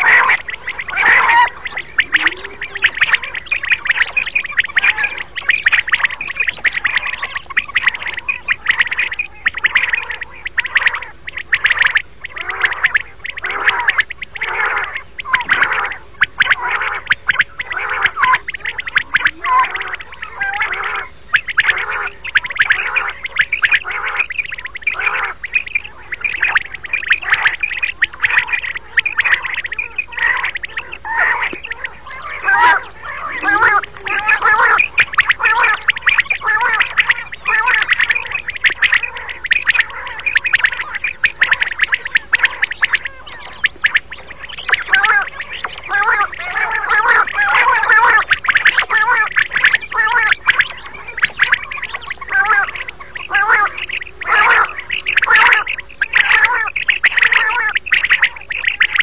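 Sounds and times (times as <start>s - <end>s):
quail calling: 0.0s - 59.0s.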